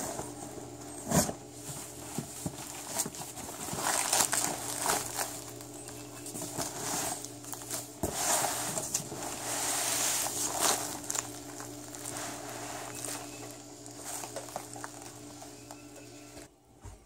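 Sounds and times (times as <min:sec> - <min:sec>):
plastic wrapping rustling: 0:00.0 - 0:16.5.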